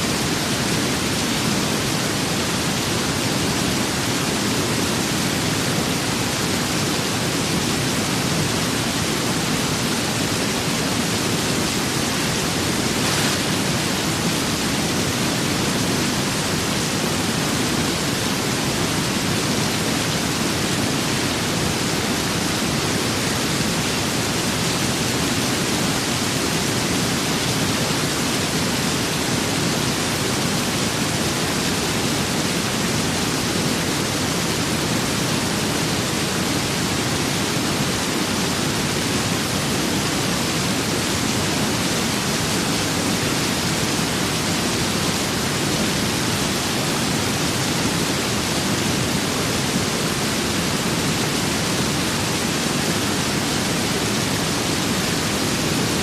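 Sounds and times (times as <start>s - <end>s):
rain and wind hiss: 0.0s - 56.0s.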